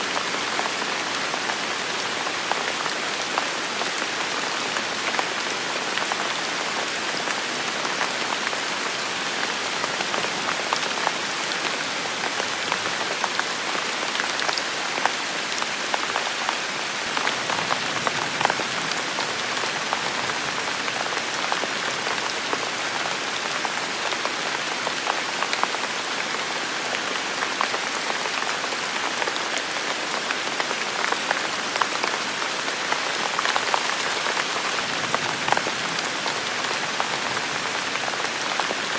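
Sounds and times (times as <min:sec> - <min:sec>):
heavy rain falling: 0:00.0 - 0:38.9
raindrops ticking on surfaces: 0:00.1 - 0:38.9.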